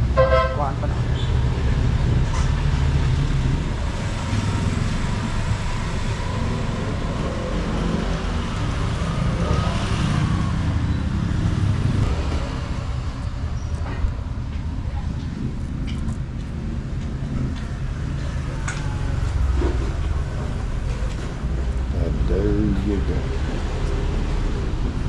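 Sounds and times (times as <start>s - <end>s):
road traffic rumbling: 0.0s - 25.0s.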